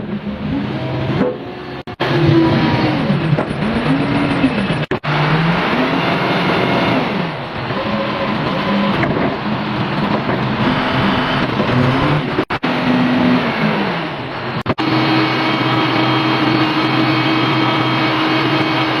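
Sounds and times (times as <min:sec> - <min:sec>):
construction machinery engine running: 0:00.0 - 0:19.0.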